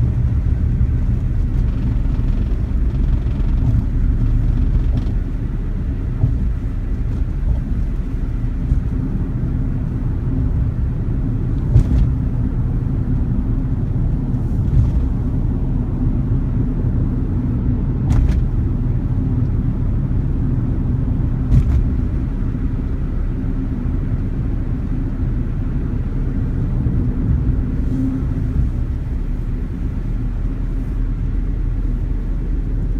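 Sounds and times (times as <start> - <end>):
car interior road rumble: 0.0 - 32.9.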